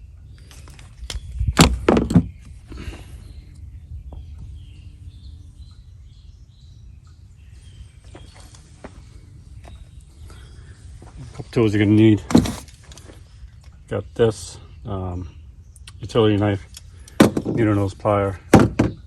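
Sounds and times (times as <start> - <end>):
outdoor background: 0.0 - 19.0.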